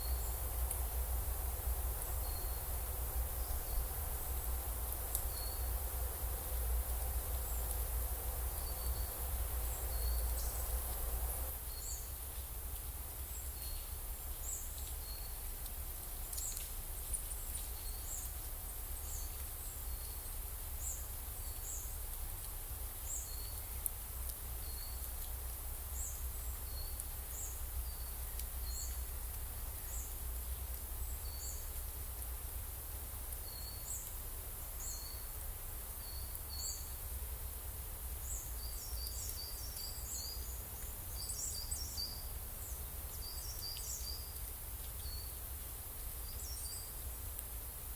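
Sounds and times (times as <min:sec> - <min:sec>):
low rumble of wind: 0:00.0 - 0:47.9.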